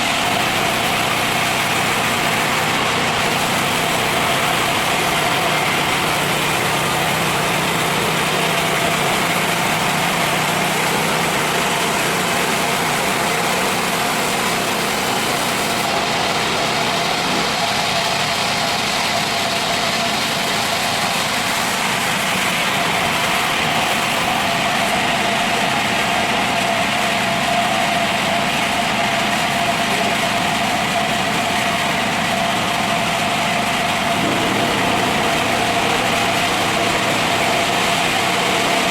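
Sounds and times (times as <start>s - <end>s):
band sawmill whine: 0.0s - 38.9s.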